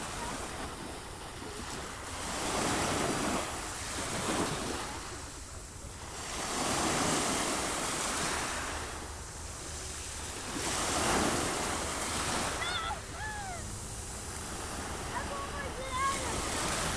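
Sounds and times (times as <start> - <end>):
sea waves washing onto shore: 0.0 - 16.9.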